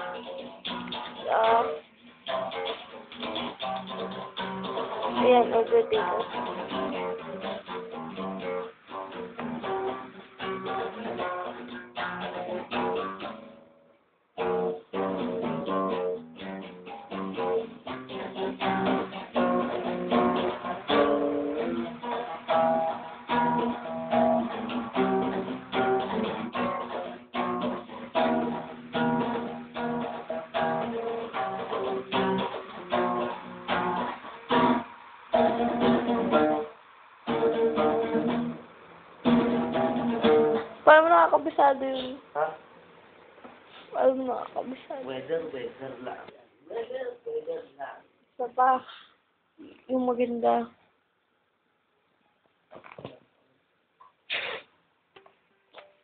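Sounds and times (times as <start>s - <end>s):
acoustic guitar: 0.0s - 50.9s, 54.0s - 56.0s.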